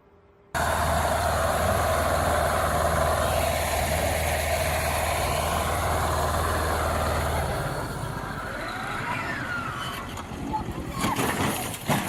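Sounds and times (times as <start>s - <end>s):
road and wind noise: 0.0s - 12.0s
vehicle engine hum: 0.6s - 11.5s.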